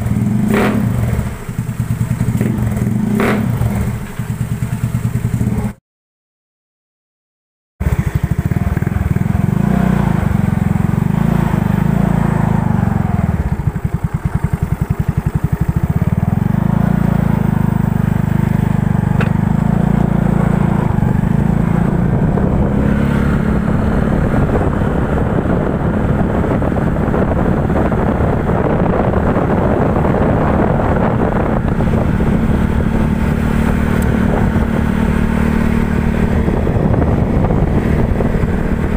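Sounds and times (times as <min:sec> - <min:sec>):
scooter engine running loud: 0:00.0 - 0:05.8, 0:07.8 - 0:38.9.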